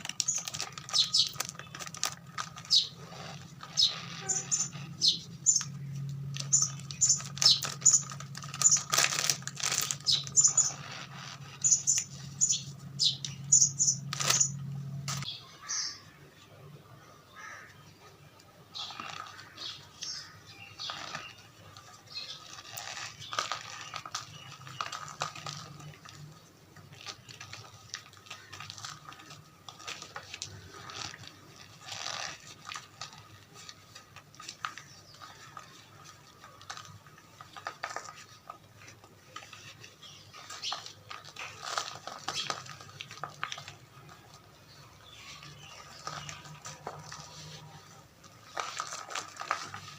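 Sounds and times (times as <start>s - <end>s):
chalk squeaky crunches: 0.0s - 16.0s, 18.7s - 49.9s.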